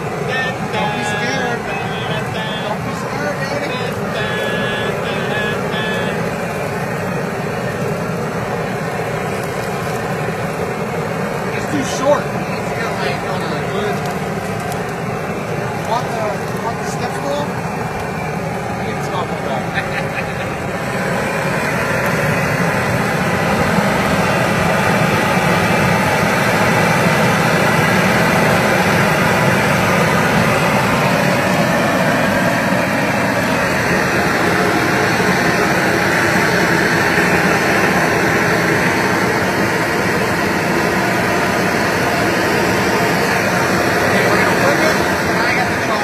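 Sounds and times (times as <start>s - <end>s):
propane torch roaring: 0.0s - 46.0s.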